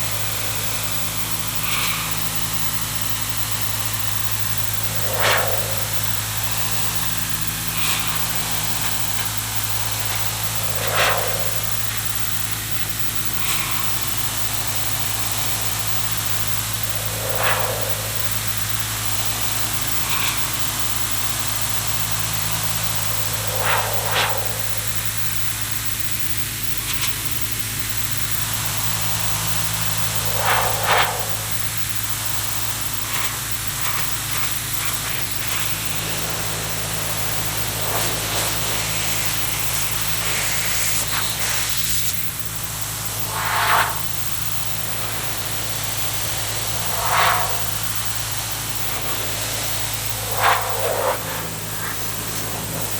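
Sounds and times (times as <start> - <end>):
low machine hum: 0.0 - 52.9
pressure washer spray hissing: 0.0 - 52.9.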